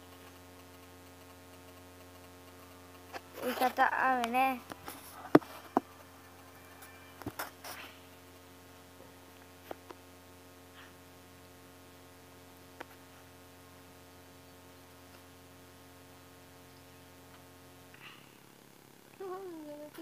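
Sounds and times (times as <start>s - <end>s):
faint electrical hum: 0.0s - 20.0s.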